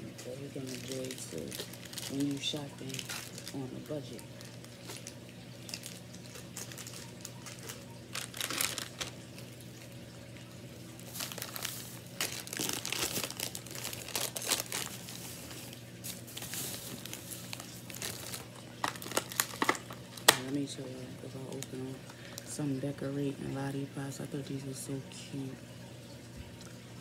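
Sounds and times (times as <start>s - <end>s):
plastic packaging crinkling: 0.1s - 22.8s.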